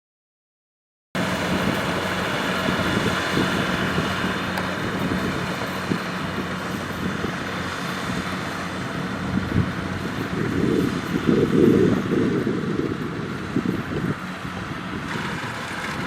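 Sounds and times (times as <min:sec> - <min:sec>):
combine harvester running: 0:01.2 - 0:16.0.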